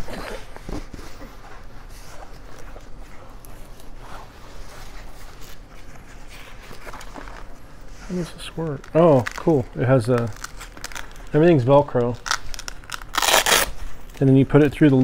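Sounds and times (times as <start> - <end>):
fabric and plastic rustling: 0.0 - 15.0.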